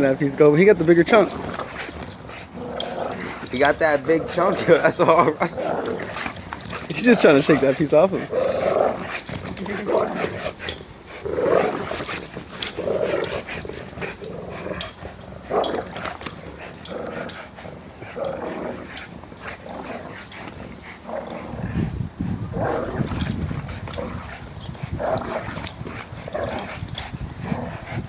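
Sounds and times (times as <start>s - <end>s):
dogs growling: 0.4s - 28.0s.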